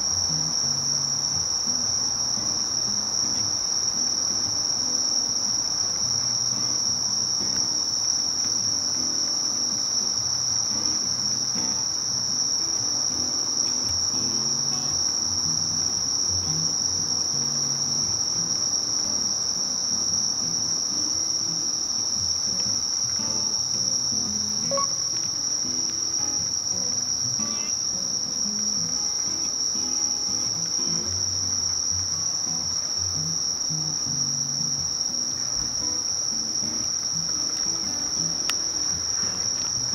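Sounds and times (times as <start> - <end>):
crickets and katydids trilling: 0.0 - 39.9.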